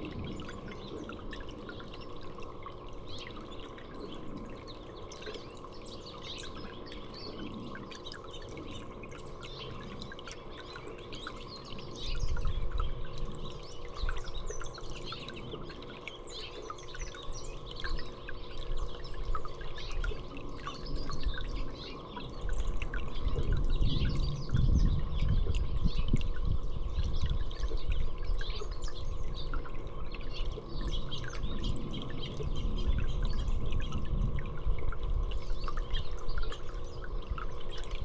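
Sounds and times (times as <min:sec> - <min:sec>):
small songbirds chirping: 0:00.0 - 0:38.0
trickling dripping water: 0:00.0 - 0:38.0.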